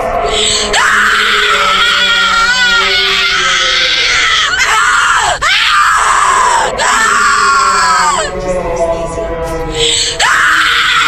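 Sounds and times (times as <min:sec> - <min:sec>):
person screaming: 0:00.2 - 0:08.3, 0:10.0 - 0:11.0.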